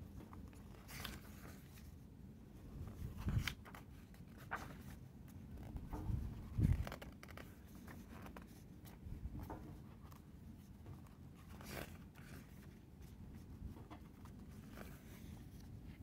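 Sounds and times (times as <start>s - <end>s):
book pages turning: 0.0s - 2.0s, 2.7s - 16.0s.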